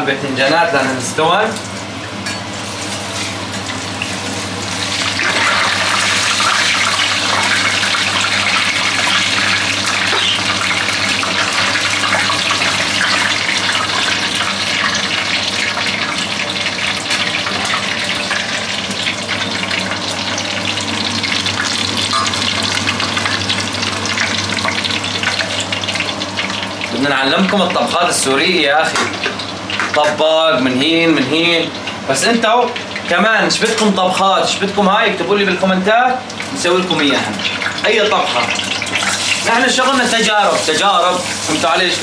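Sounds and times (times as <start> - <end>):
potatoes sizzling in oil: 1.8 - 34.0, 36.1 - 42.0.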